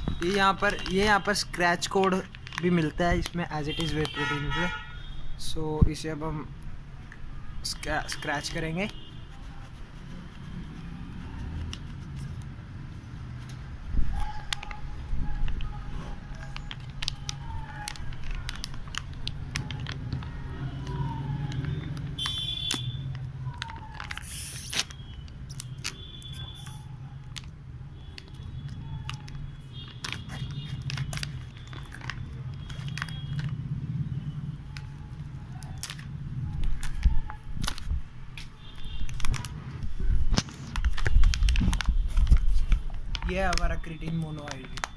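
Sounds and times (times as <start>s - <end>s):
plastic packaging clicks and crinkles: 0.0s - 4.8s, 5.9s - 9.1s, 13.4s - 44.9s.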